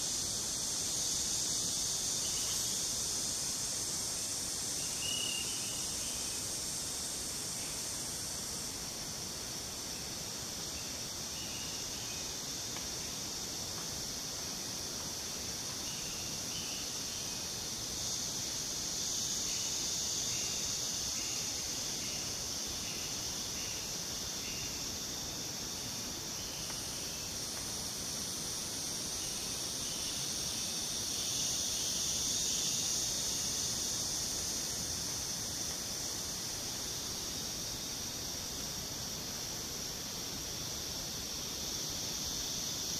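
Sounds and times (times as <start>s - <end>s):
short repeated insect chirps: 0.0s - 8.9s, 9.6s - 42.9s
high-pitched insect buzz: 0.0s - 42.9s.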